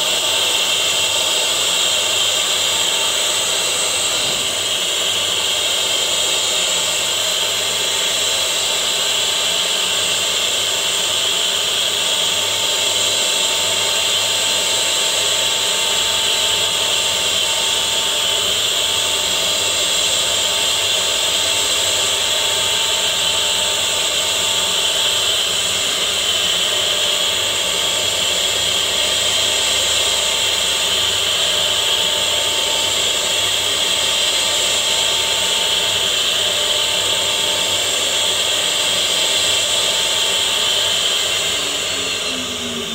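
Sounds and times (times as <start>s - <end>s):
wood router whining and cutting: 0.0s - 42.9s.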